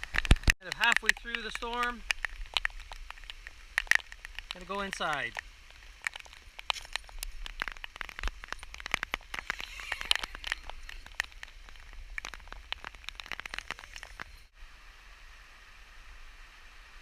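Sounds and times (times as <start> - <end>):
raindrops pattering close by: 0.0 - 14.5
steady rain hiss: 0.0 - 17.0.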